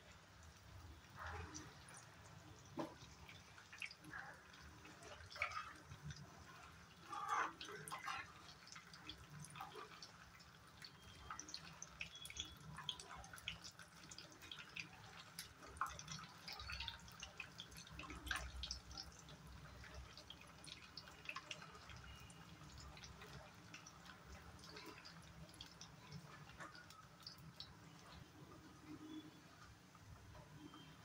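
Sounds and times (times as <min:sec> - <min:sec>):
milk simmering with bubbling pops: 0:00.0 - 0:31.0.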